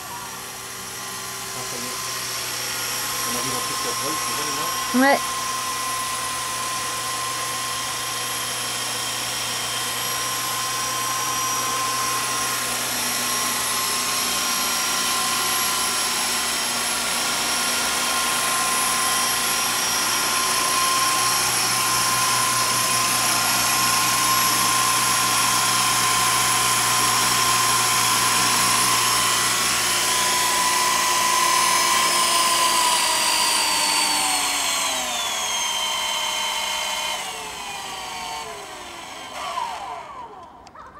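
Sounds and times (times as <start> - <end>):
model helicopter rotor whine: 0.0 - 40.8.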